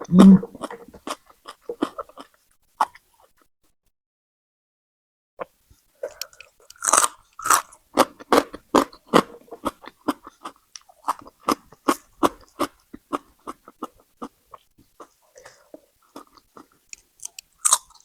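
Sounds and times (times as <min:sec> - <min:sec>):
person chewing crunchy food: 0:00.0 - 0:03.3, 0:06.0 - 0:18.0.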